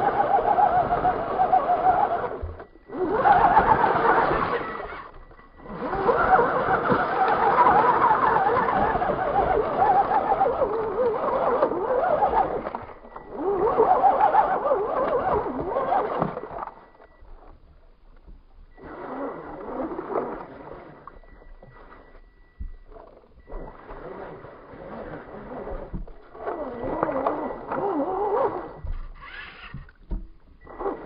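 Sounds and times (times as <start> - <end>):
electric motor whining: 0.0 - 17.5, 18.7 - 22.1, 22.8 - 30.0, 30.6 - 31.0.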